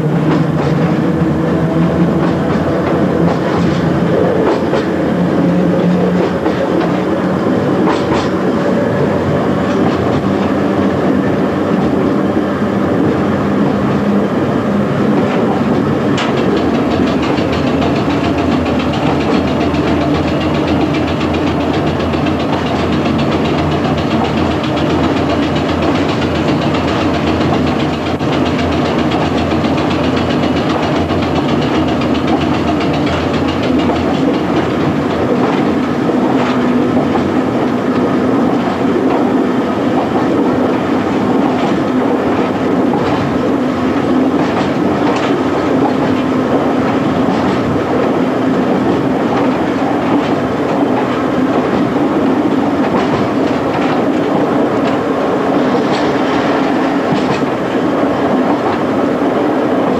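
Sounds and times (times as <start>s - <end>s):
electric train running: 0.0s - 59.9s.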